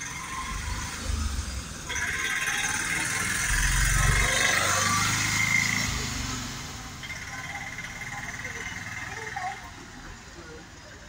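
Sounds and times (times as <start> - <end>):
auto-rickshaw engine passing: 0.0 - 11.0.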